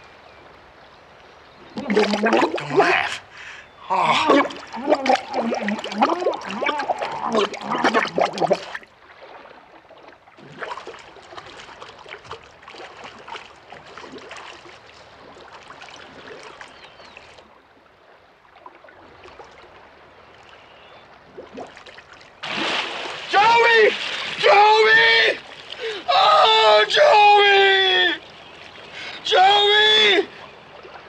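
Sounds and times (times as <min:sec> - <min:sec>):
muffled water with faint gurgling: 0:00.0 - 0:23.2, 0:25.3 - 0:26.2, 0:27.6 - 0:29.3, 0:30.0 - 0:31.0
water splashing: 0:01.6 - 0:31.0.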